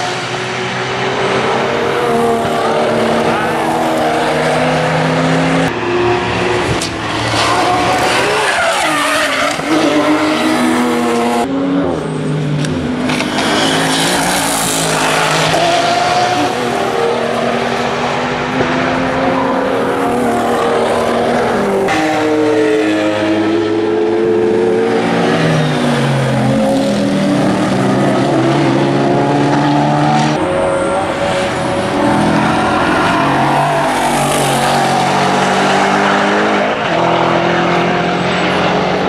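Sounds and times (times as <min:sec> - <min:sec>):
racing car engines passing: 0:00.0 - 0:39.0.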